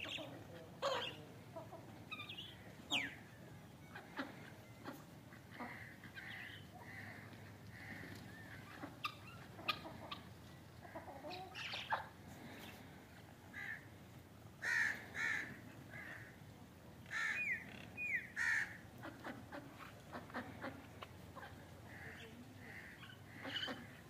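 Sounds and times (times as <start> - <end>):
crows and chickens calling: 0.0 - 24.0.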